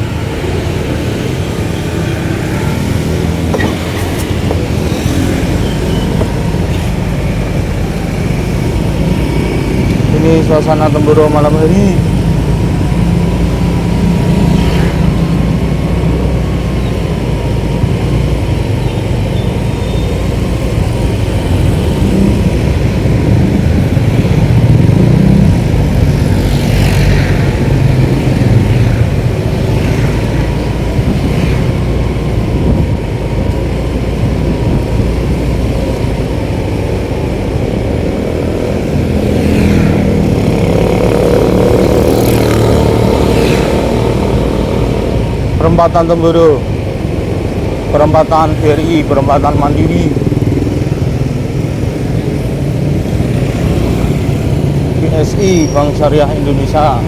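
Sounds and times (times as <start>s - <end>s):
motorcycle engine rumble: 0.0s - 57.0s
passing traffic: 0.0s - 57.0s.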